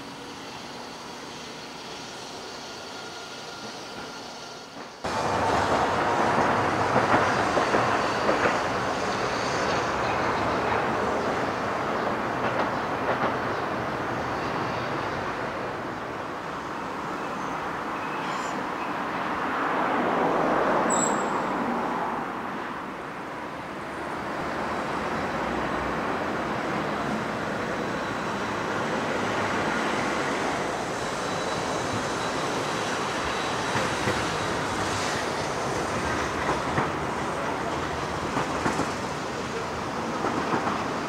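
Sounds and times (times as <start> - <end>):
streetcar rolling on track: 0.0 - 41.0.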